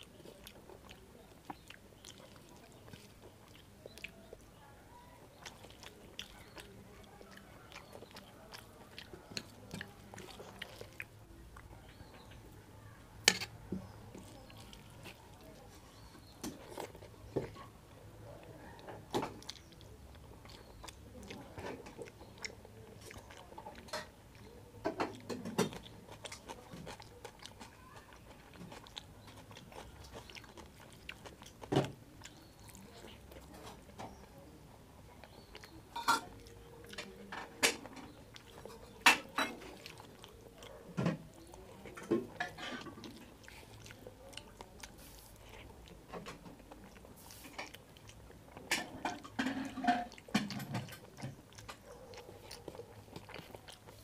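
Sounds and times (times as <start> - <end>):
chewing and lip smacking: 0.0 - 54.0.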